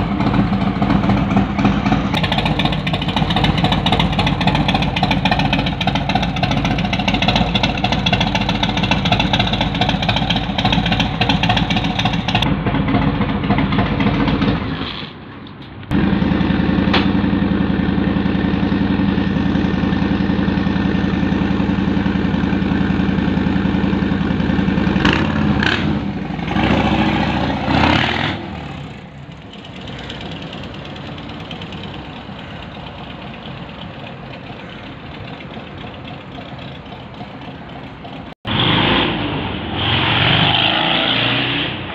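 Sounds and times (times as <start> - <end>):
motorcycle engine idling: 0.0 - 14.7, 15.9 - 26.5, 28.7 - 38.4.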